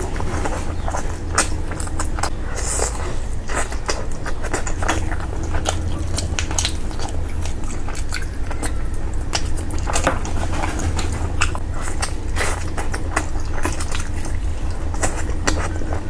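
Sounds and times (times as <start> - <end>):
person chewing food: 0.0 - 16.0
steady low hum: 0.0 - 16.0.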